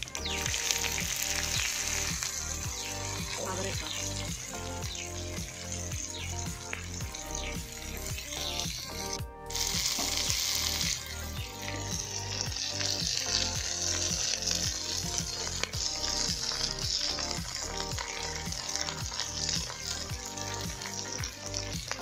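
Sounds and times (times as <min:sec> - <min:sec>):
background music with repeating beat: 0:00.0 - 0:22.0
beans sizzling in a hot pot: 0:00.0 - 0:22.0.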